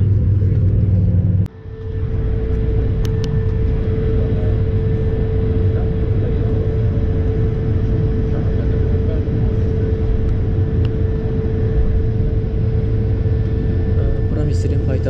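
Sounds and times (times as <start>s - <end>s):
airliner cabin rumble: 0.0s - 15.0s
steady tone: 0.0s - 15.0s.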